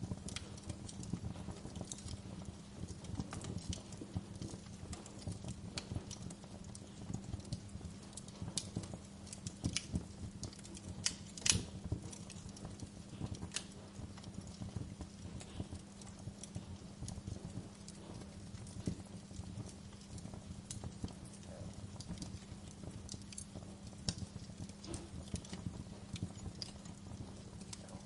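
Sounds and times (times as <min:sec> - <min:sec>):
low steady hum: 0:00.0 - 0:28.0
wood fire crackling: 0:00.0 - 0:28.0.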